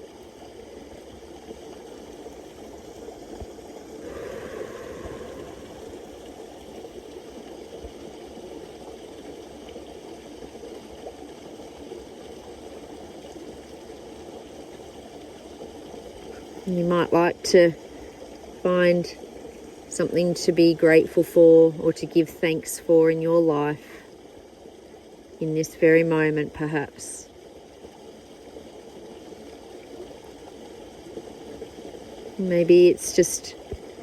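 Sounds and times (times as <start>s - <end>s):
creek water flowing: 0.0s - 34.0s.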